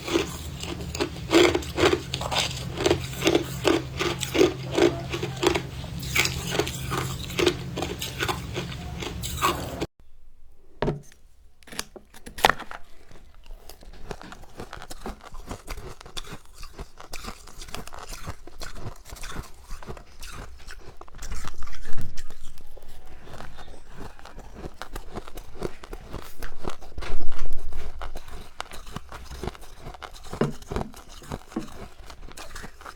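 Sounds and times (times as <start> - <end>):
crunching and chewing frost: 0.0 - 9.9, 11.7 - 32.9.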